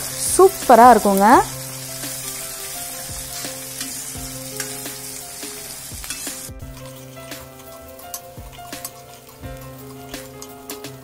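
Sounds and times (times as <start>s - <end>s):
food sizzling in hot oil: 0.0s - 11.0s
steel ladle scraping a pan: 1.6s - 10.7s.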